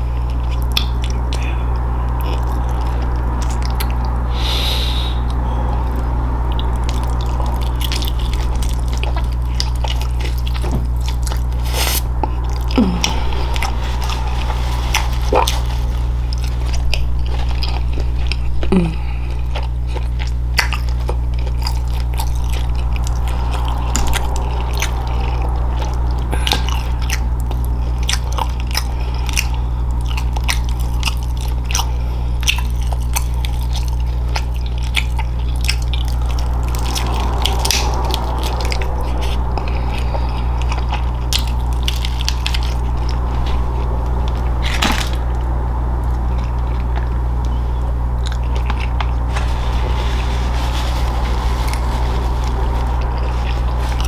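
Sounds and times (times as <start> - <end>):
chewing and biting food: 0.0 - 4.2, 5.3 - 54.0
low hum: 0.0 - 54.0.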